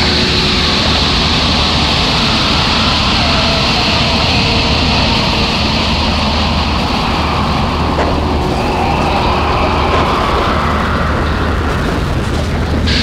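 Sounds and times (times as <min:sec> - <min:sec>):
high hissing: 0:00.0 - 0:12.2
deep rumble: 0:00.0 - 0:13.0
distorted droning noise: 0:00.0 - 0:13.0.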